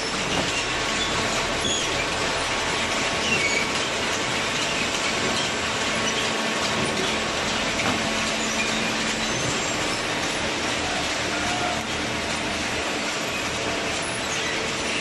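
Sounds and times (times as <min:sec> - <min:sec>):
metal squeaks: 0:00.0 - 0:02.2, 0:03.1 - 0:12.5, 0:13.2 - 0:15.0
baler machine running: 0:00.0 - 0:15.0.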